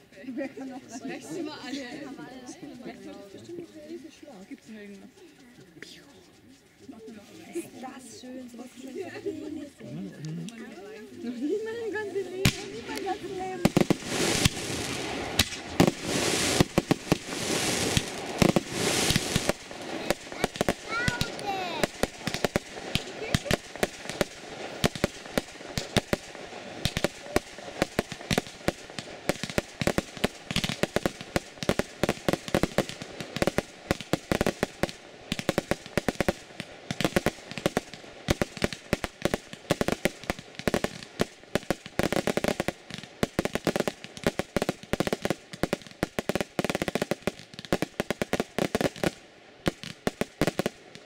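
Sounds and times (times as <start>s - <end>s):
fireworks bursting with bangs: 7.5s - 51.0s.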